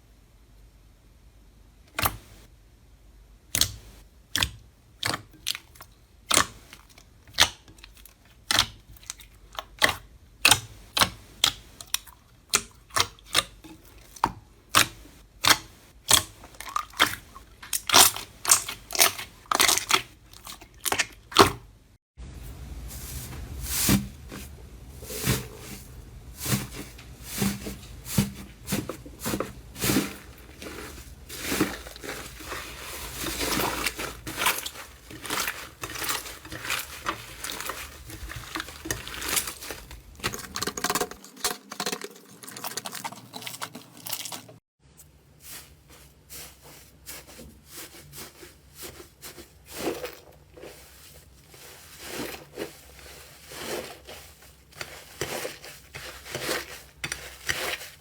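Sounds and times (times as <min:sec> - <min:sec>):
slime squelching and crackling: 0:03.6 - 0:21.7, 0:23.5 - 0:44.6, 0:45.4 - 0:58.0.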